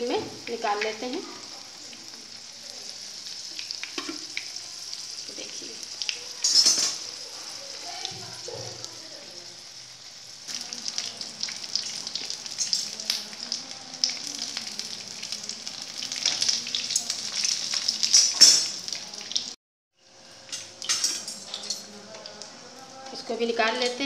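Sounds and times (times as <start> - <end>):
frying sizzle with crackles: 0.0 - 24.0.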